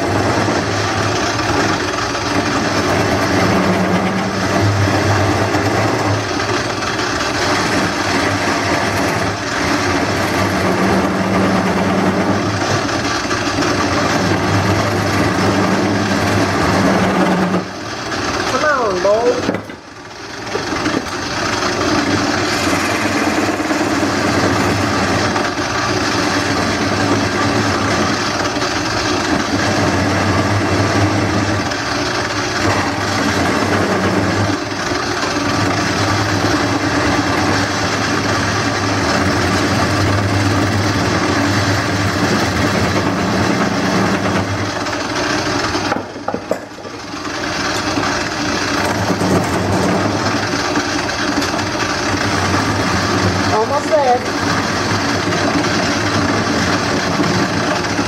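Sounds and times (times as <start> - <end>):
gouge cutting spinning wood: 0.0 - 58.0
lathe motor hum: 0.0 - 58.0.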